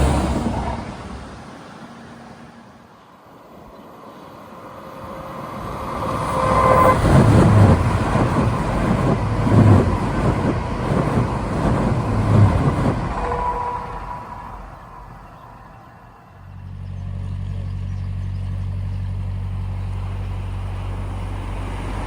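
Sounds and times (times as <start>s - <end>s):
train passing: 0.0s - 16.8s, 19.1s - 22.0s.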